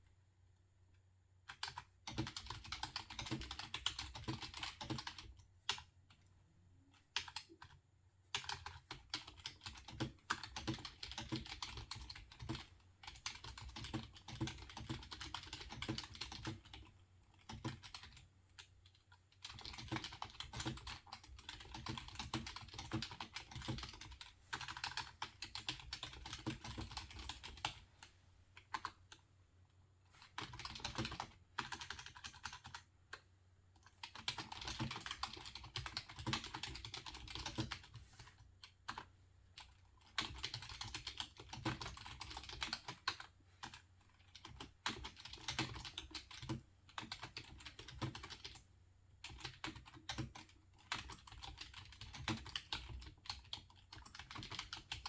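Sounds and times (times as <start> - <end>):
typing on computer keyboard: 1.4 - 5.9, 6.9 - 29.2, 30.2 - 55.0.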